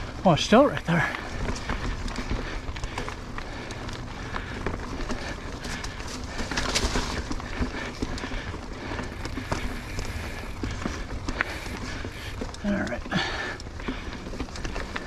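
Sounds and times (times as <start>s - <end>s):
bike clicks and rattles: 0.0s - 15.0s
bike tyres on dirt trail: 0.0s - 15.0s.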